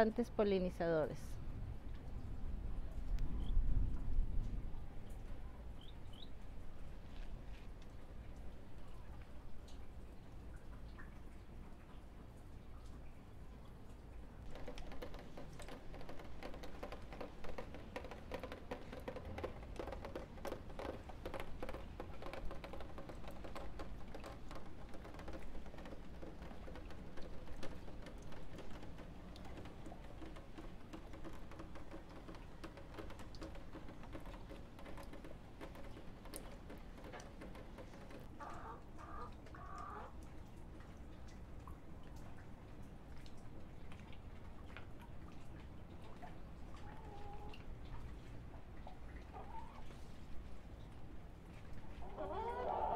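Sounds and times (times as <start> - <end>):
rainwater dripping: 1.6 - 52.4.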